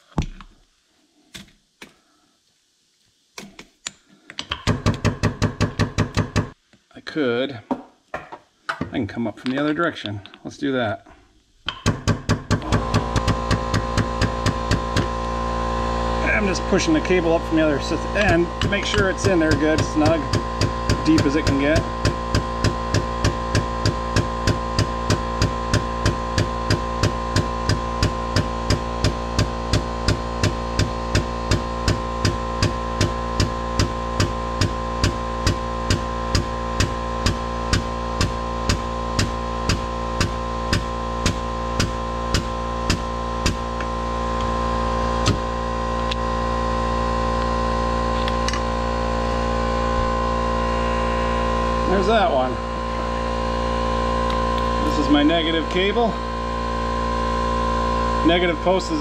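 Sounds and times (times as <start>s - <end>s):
hydraulic crimper humming: 11.6s - 59.0s.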